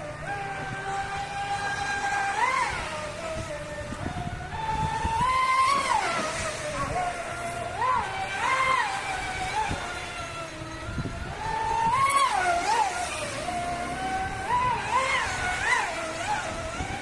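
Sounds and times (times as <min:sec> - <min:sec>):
rc speedboat motor whining: 0:00.0 - 0:17.0.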